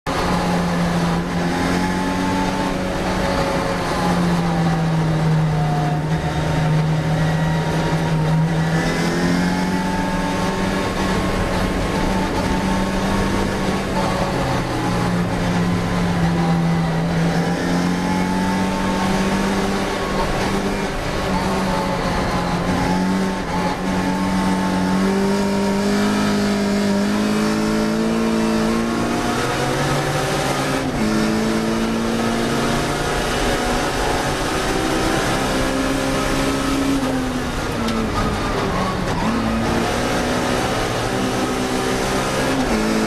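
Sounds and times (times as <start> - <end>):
racing car engine running: 0.0 - 43.0.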